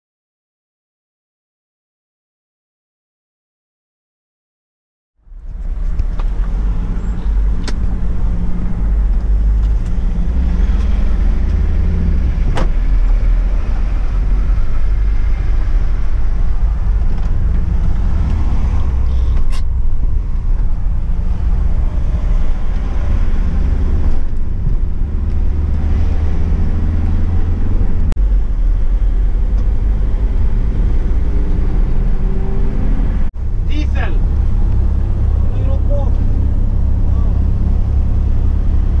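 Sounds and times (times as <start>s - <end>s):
engine and road rumble: 5.2s - 39.0s.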